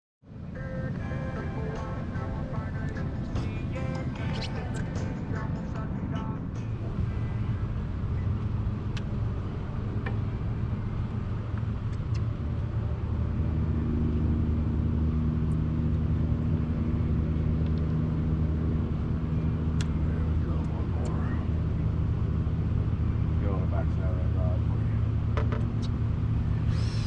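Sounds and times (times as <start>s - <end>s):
engine running: 0.3s - 27.0s.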